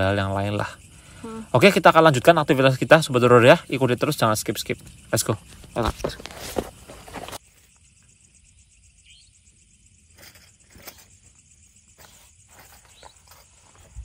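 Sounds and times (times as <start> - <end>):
high insect chirring: 0.0 - 14.0.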